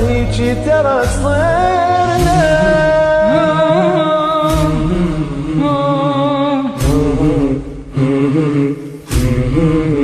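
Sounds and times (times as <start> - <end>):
heavy drum beats: 0.0 - 6.0, 6.6 - 8.3, 8.9 - 10.0
men singing a slow melody: 0.0 - 10.0.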